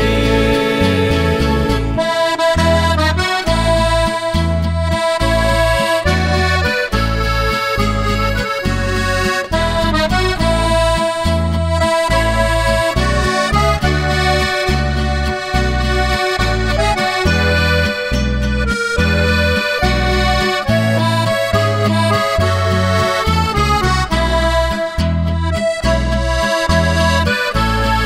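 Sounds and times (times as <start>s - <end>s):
accordion playing melody: 0.0s - 28.0s
steady bass beat: 0.0s - 28.0s.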